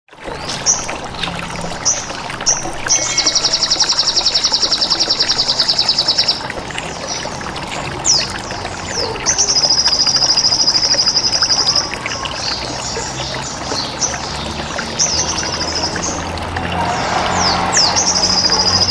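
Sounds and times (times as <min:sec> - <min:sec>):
running water trickling: 0:00.1 - 0:18.9.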